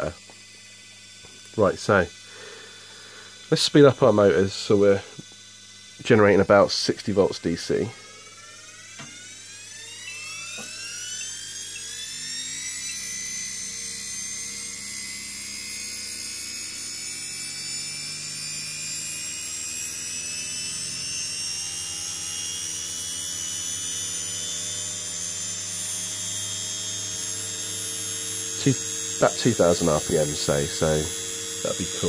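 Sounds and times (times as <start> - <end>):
electric motor whine: 0.0 - 32.0.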